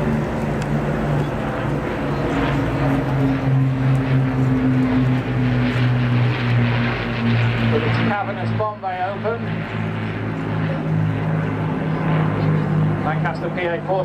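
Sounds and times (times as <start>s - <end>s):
propeller aircraft flying past: 0.0s - 14.0s.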